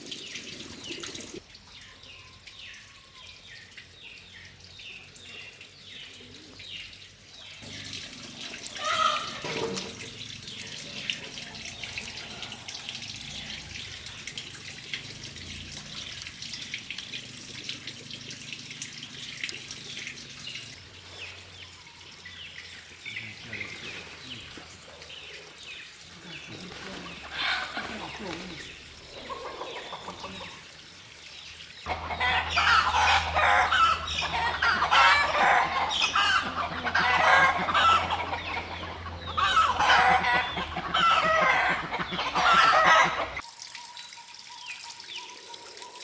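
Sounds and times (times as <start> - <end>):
water running: 0.0 - 1.4, 7.5 - 20.8, 22.3 - 46.0.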